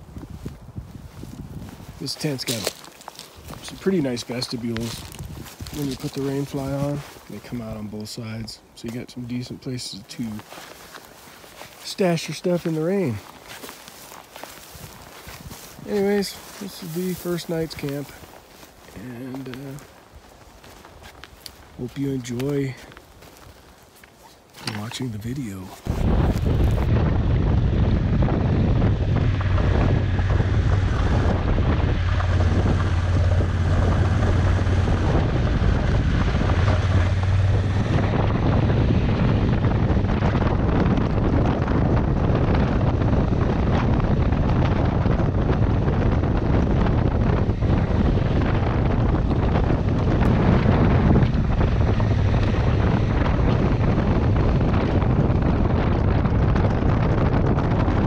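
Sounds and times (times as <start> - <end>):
motorcycle engine hum: 0.0 - 9.6, 10.4 - 58.0
wind rushing over microphone: 0.0 - 58.0.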